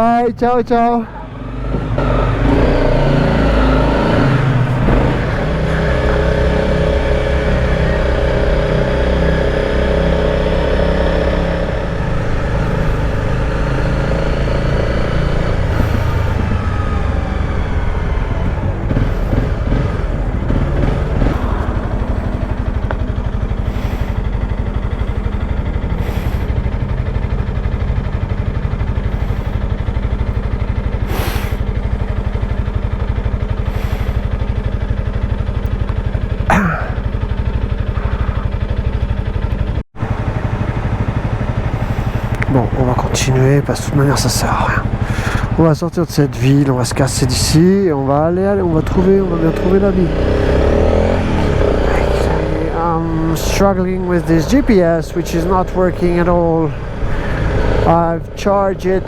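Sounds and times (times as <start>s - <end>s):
motorcycle engine accelerating: 0.8s - 59.0s.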